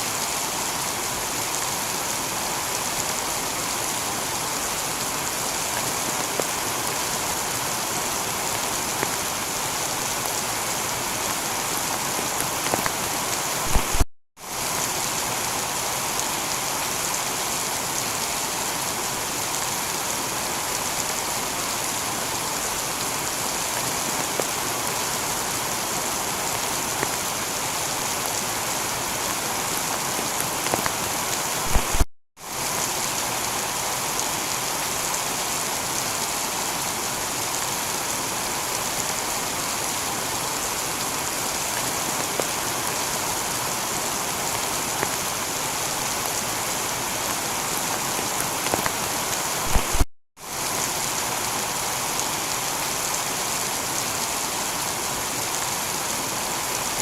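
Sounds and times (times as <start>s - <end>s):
heavy rain on a tiled roof: 0.0s - 57.0s.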